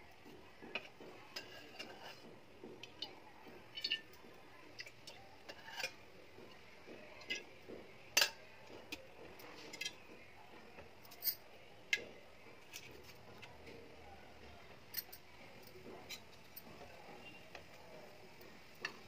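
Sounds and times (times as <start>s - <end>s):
pot ticking and crackling on burner: 0.0s - 19.0s.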